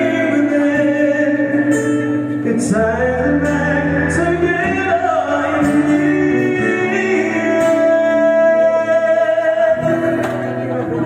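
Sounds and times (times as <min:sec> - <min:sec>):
band playing slow ballad: 0:00.0 - 0:11.0
person singing: 0:00.0 - 0:11.0.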